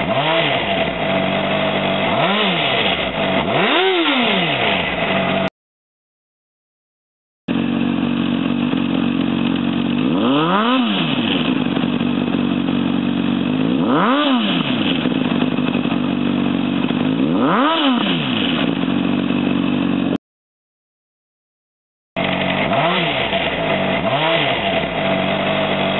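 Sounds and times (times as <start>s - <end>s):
motorcycle engine idling and revving: 0.0s - 5.5s, 7.5s - 20.2s, 22.2s - 25.9s.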